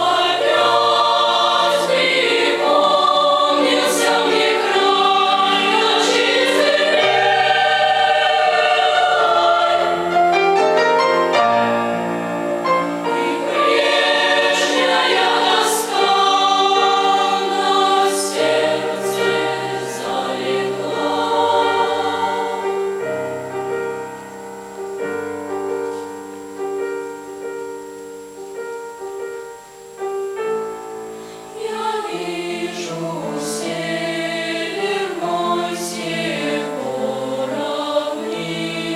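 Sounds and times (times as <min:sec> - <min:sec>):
children's choir singing: 0:00.0 - 0:24.2, 0:31.3 - 0:38.9.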